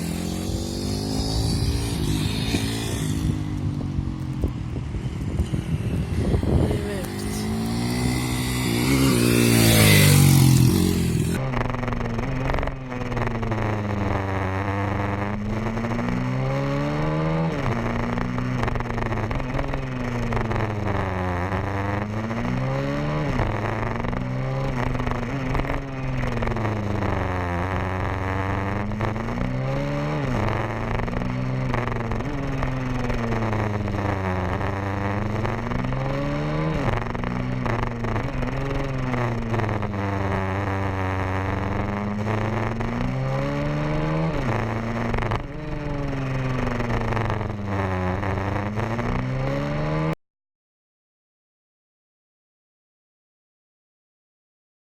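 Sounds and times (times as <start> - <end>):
motorbike engine revving: 0.0 - 50.2.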